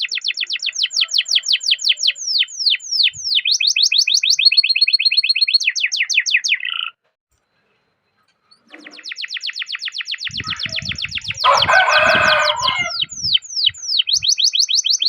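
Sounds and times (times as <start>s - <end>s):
canary singing: 0.0s - 7.0s, 8.3s - 15.0s.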